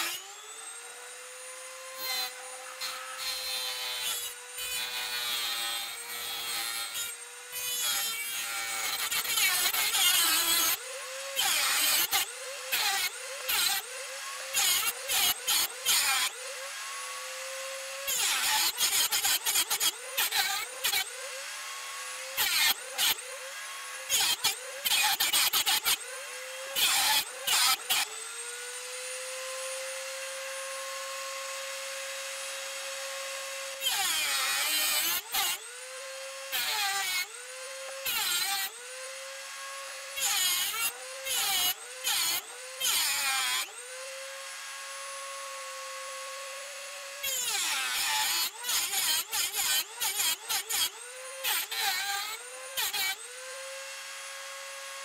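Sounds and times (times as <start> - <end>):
cutoff wheel grinding metal: 0.0 - 54.6
rotary tool whining: 0.0 - 55.0.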